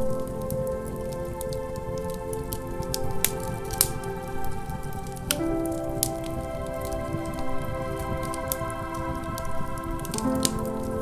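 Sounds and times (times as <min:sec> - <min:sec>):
ambient meditation music: 0:00.0 - 0:11.0
wood fire crackling: 0:00.0 - 0:11.0.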